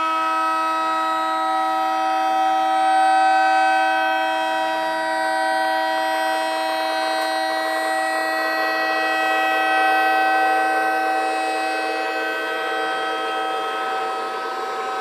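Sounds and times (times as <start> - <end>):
electronic tornado siren: 0.0 - 15.0.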